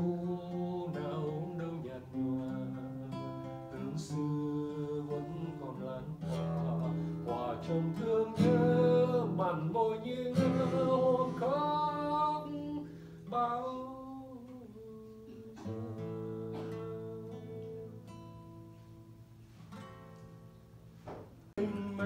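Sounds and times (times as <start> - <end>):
man singing: 0.0 - 18.2, 21.6 - 22.0
acoustic guitar: 0.0 - 22.0.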